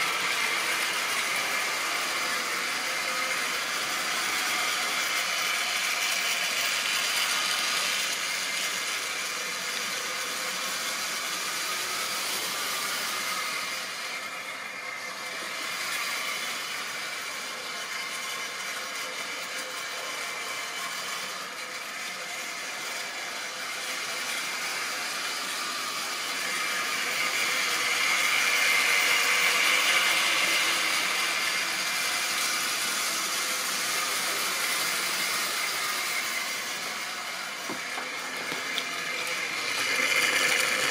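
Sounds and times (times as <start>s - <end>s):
model train whirring and rattling: 0.0s - 40.9s.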